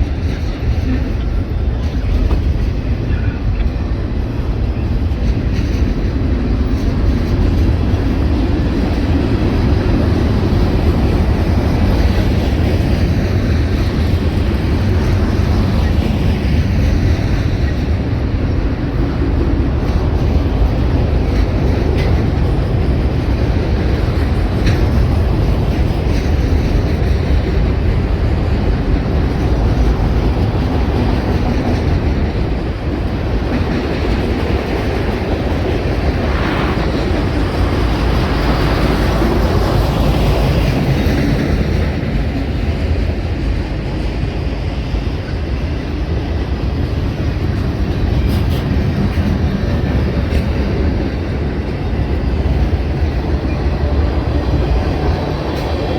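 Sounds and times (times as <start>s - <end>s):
sharp clicks of train wheels: 0.0s - 55.9s
train wheels rumbling on rails: 0.0s - 55.9s.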